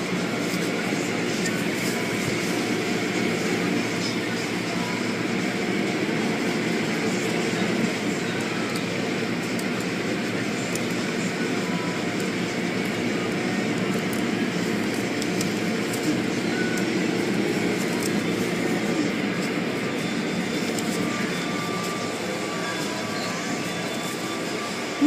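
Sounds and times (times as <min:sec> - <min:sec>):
car wash equipment running: 0:00.0 - 0:25.0.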